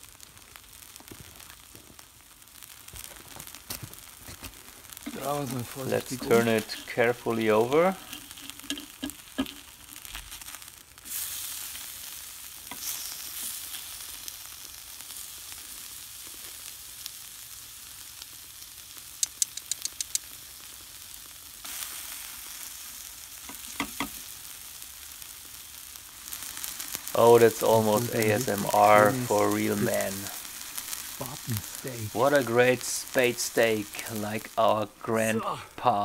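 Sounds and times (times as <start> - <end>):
steak sizzling on hot metal: 0.0 - 36.0.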